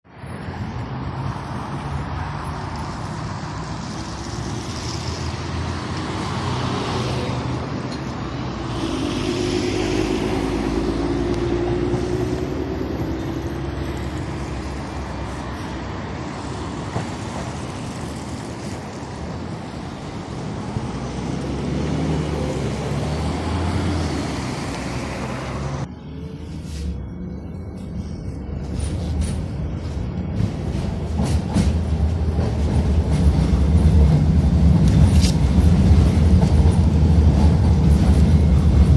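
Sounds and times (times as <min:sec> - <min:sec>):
tram wheels rumbling: 0:00.4 - 0:38.9.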